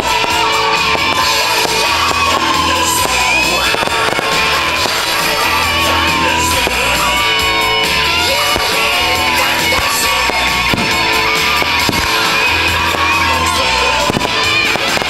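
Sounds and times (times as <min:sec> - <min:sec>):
fireworks bangs: 0:00.0 - 0:15.0
music with singing: 0:00.0 - 0:15.0.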